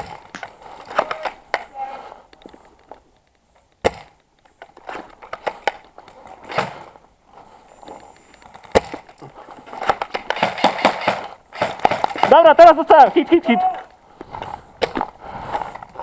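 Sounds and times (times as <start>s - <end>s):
crunching scraping gear handling: 0.0s - 16.0s.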